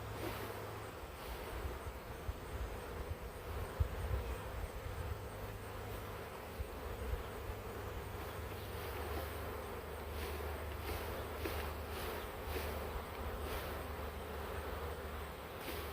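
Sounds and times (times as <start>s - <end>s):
bees buzzing: 0.0s - 15.9s.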